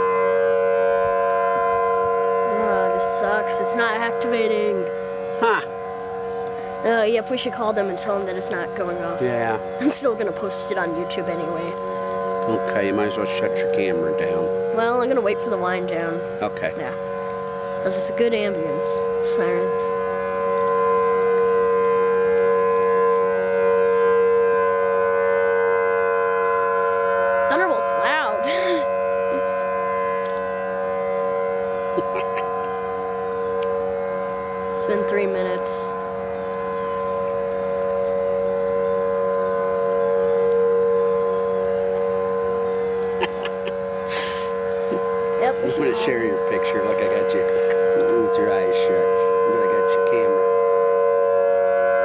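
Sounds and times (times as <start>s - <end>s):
outdoor warning sirens: 0.0s - 52.0s.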